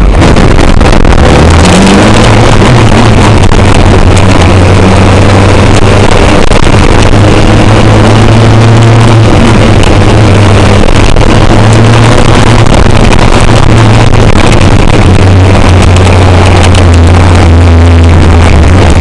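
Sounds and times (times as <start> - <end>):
dense noise haze: 0.0 - 19.0
motorcycle engine running: 0.0 - 19.0.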